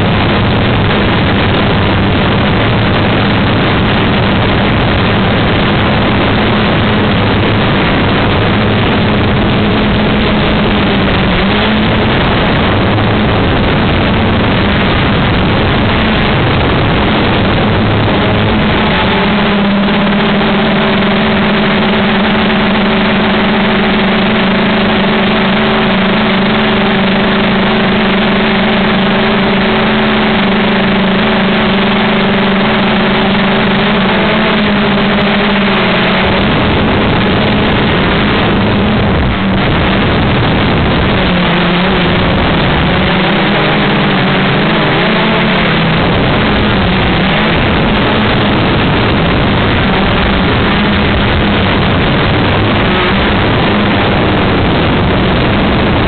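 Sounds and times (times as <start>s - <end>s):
model aircraft motor drone: 0.0s - 52.0s
wind rushing noise: 0.0s - 56.0s.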